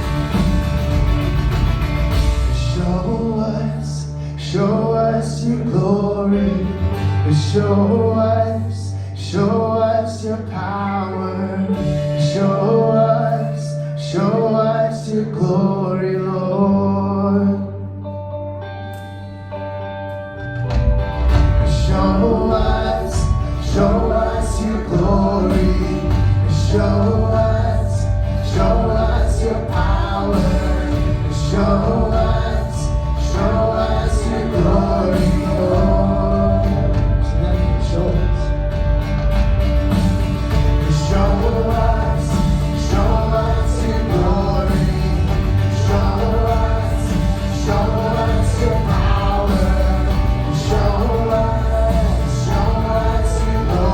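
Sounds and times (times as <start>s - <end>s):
gospel group singing with band: 0.0s - 17.8s, 21.2s - 38.5s, 39.9s - 53.9s.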